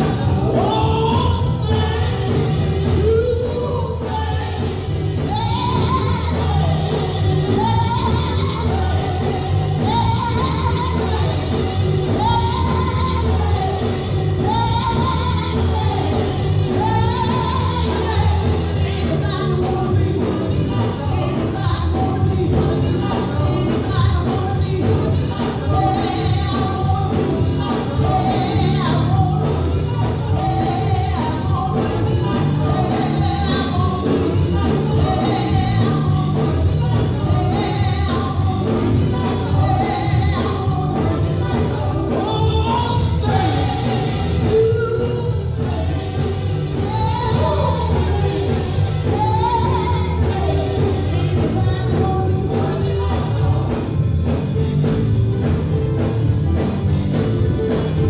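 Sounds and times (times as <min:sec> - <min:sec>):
backing singers: 0:00.0 - 0:58.0
band with bass line: 0:00.0 - 0:58.0
woman singing lead: 0:00.0 - 0:58.0.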